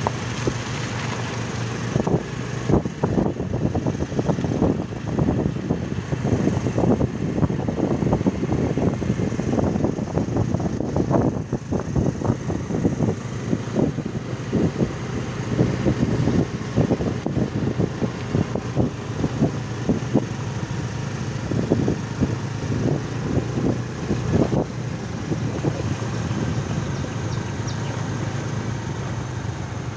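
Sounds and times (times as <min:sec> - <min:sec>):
small motorcycle engine running: 0:00.0 - 0:29.9
wind buffeting microphone: 0:00.0 - 0:29.9.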